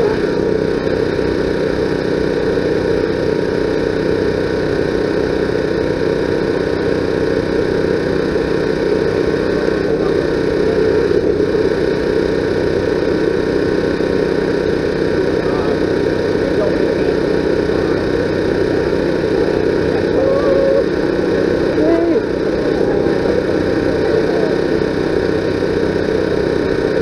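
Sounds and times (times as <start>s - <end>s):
engine-like drone with hum tones: 0.0s - 27.0s.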